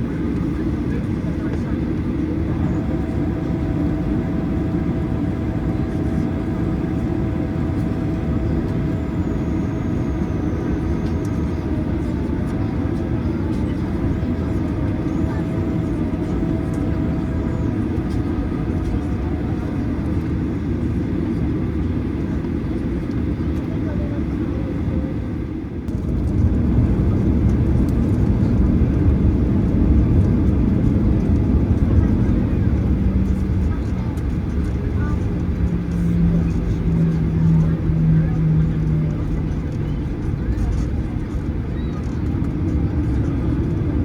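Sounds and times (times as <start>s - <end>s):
jet engines idling rumble: 0.0s - 44.0s.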